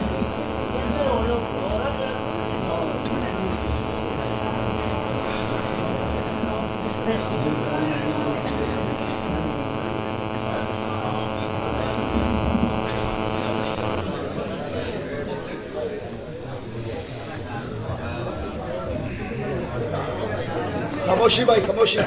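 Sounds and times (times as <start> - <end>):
faint voices: 0.0 - 21.0
electrical hum through loudspeakers: 0.0 - 22.0.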